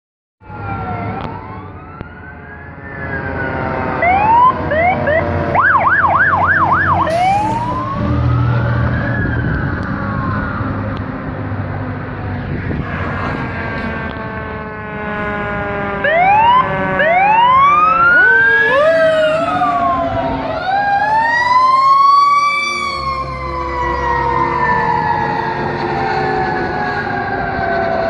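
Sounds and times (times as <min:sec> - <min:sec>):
fire truck sirens: 0:00.4 - 0:28.0.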